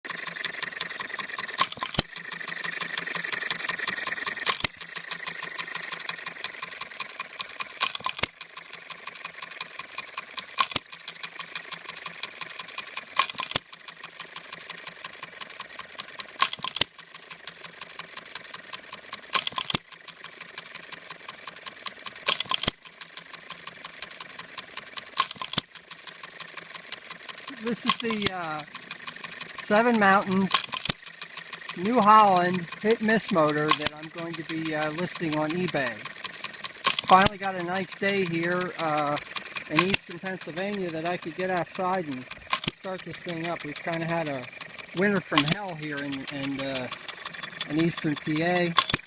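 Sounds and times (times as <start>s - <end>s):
engine clatter: 0.0s - 49.0s.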